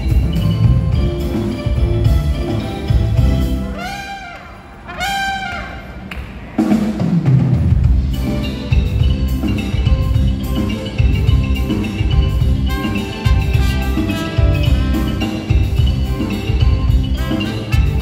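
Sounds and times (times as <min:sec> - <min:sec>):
bass: 0:00.0 - 0:04.2, 0:07.5 - 0:18.0
drums: 0:00.0 - 0:18.0
live band playing: 0:00.0 - 0:18.0.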